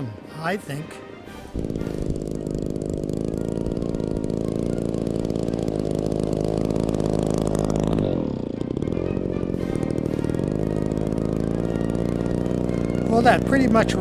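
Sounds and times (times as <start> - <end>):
model plane engine running: 0.0 - 14.0.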